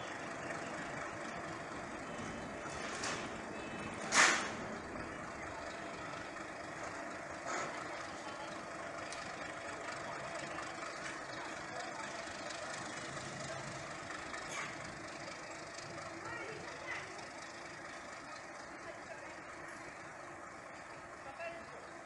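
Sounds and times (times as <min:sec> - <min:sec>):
diesel locomotive running: 0:00.0 - 0:22.0.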